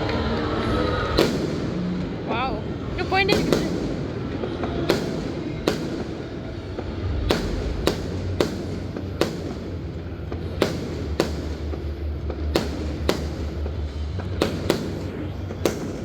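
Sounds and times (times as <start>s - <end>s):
low rumble: 0.0s - 3.1s, 6.2s - 16.0s
fireworks bangs: 0.0s - 16.0s.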